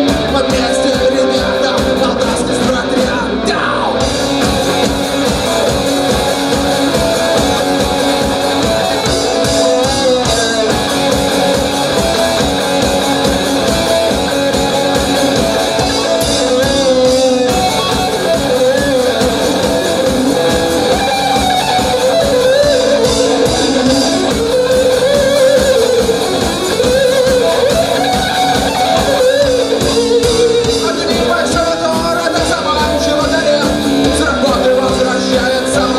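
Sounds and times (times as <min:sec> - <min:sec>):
bass guitar: 0:00.0 - 0:35.9
electric guitar melody: 0:00.0 - 0:35.9
drum beat: 0:04.0 - 0:35.9.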